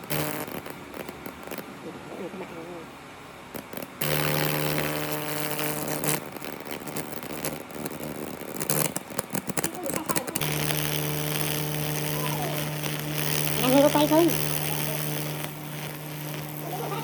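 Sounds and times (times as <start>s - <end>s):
power tool motor humming: 0.0s - 1.6s, 3.6s - 17.0s.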